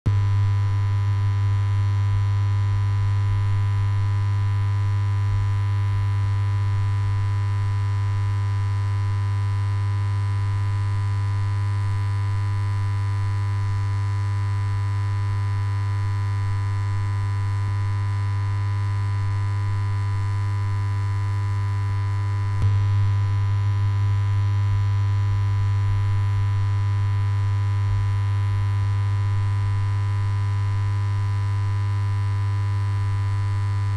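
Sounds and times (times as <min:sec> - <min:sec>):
steady low hum: 0:00.1 - 0:33.9.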